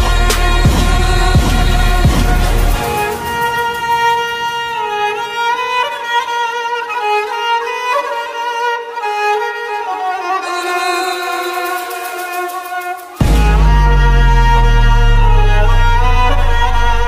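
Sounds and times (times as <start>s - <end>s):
sliding bowed-string melody: 0.0s - 17.0s.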